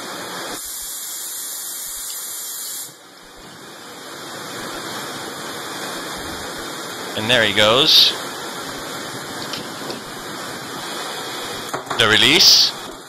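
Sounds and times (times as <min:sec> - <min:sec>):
steady hissing noise: 0:00.0 - 0:13.0.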